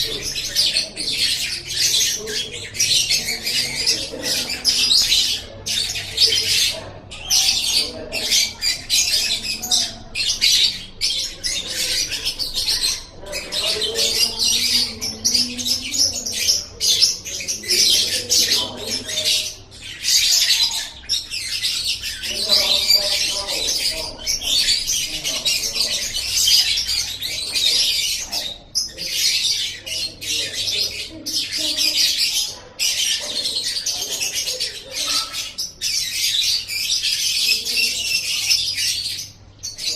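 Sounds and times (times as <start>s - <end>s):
lovebird chattering song: 0.0s - 39.9s.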